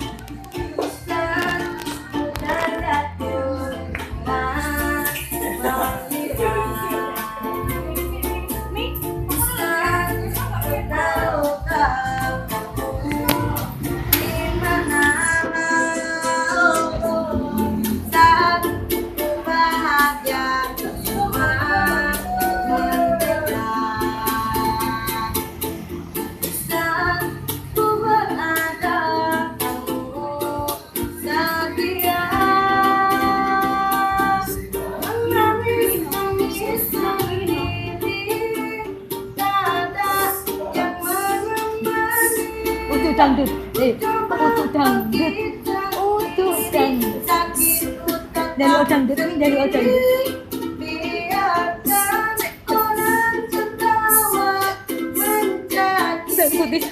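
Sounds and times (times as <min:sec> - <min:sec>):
child singing: 0:00.0 - 0:25.4, 0:26.7 - 0:56.9
strummed string accompaniment: 0:00.0 - 0:56.9.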